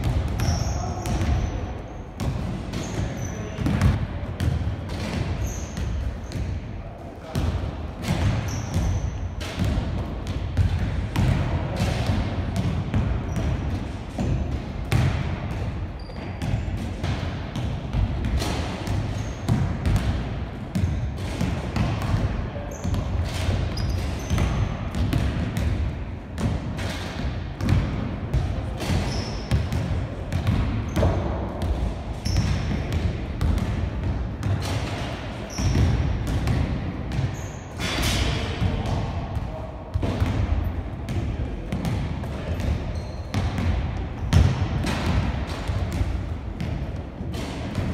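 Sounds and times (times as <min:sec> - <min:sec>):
basketball bouncing on wooden floor: 0:00.0 - 0:01.5, 0:02.2 - 0:06.5, 0:07.4 - 0:34.9, 0:35.5 - 0:37.4, 0:39.9 - 0:47.9.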